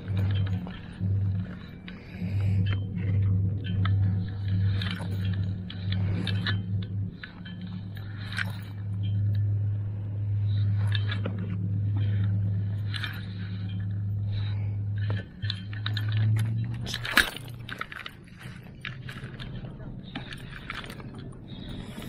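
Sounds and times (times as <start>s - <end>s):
boat engine droning: 0.0s - 22.0s
light clicks and clinks: 0.0s - 22.0s.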